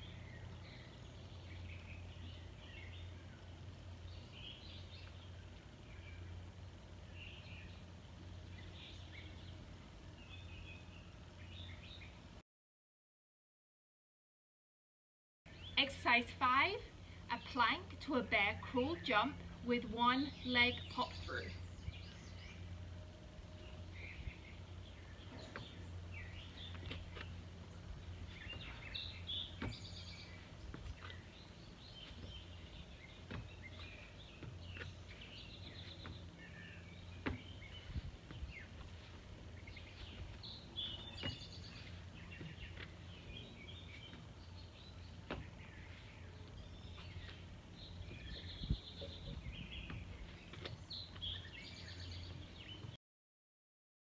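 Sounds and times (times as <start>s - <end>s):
songbirds chirping: 0.0s - 12.4s, 15.5s - 53.0s
steady low hum: 0.0s - 12.4s, 15.5s - 53.0s.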